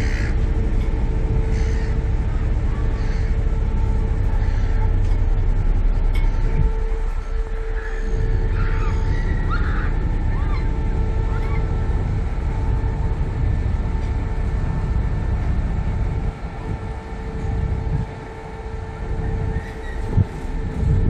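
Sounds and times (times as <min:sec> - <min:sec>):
ferry engine rumble: 0:00.0 - 0:21.0
machinery hum: 0:00.0 - 0:21.0.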